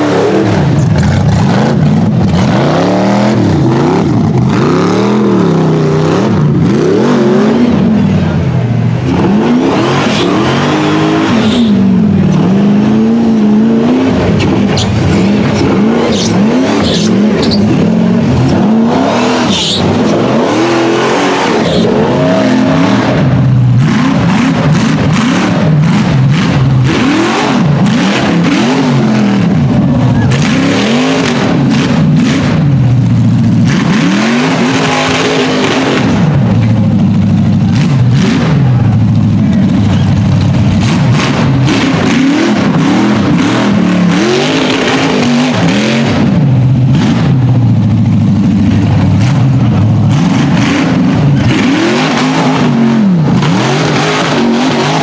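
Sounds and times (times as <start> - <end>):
racing engines revving: 0.0 - 55.0.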